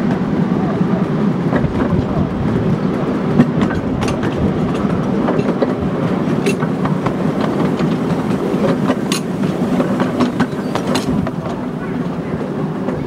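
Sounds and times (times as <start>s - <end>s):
miniature train rumbling: 0.0s - 13.0s
wheels clicking over rail joints: 1.0s - 13.0s.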